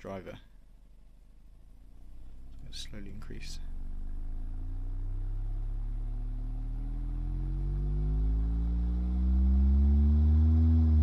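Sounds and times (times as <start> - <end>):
low sine-wave test tone rising: 0.6 - 11.0.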